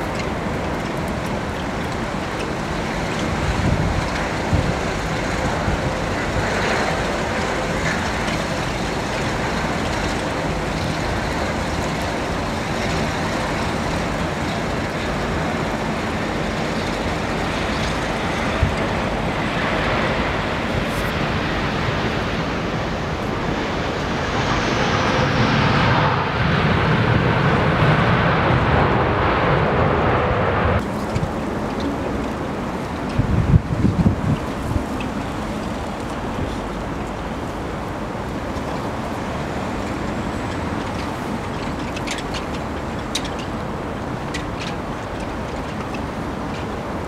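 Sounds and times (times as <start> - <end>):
jet airliner engines: 0.0 - 47.0
wind on microphone: 0.0 - 47.0.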